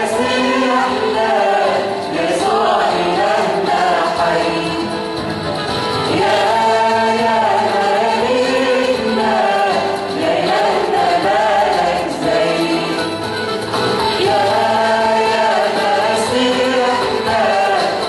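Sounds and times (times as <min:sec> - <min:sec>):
church choir singing a hymn: 0:00.0 - 0:05.0, 0:06.1 - 0:13.2, 0:14.2 - 0:18.0.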